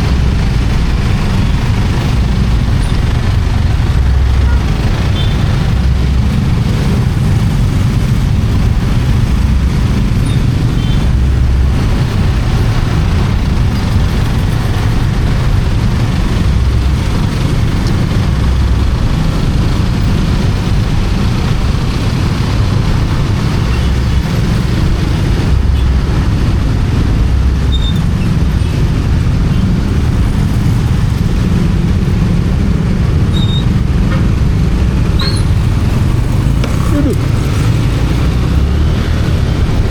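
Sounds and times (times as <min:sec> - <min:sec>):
motorcycle engine: 0:00.0 - 0:39.9
road noise: 0:00.0 - 0:39.9.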